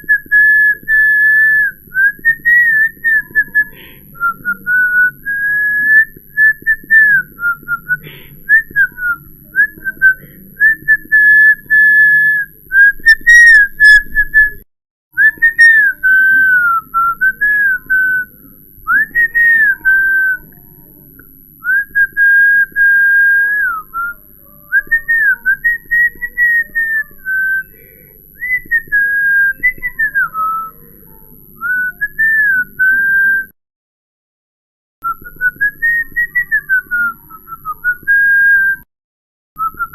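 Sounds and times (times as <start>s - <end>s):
person whistling a tune: 0.0s - 14.6s, 15.2s - 18.3s, 21.6s - 30.8s, 31.6s - 33.6s, 35.0s - 38.9s, 39.6s - 39.9s.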